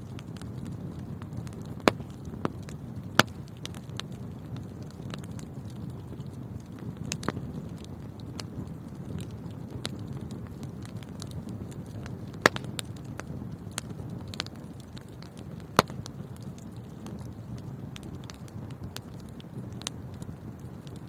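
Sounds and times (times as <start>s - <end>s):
fire crackling in a fireplace: 0.0s - 21.0s
sharp pops of fire: 0.1s - 21.0s.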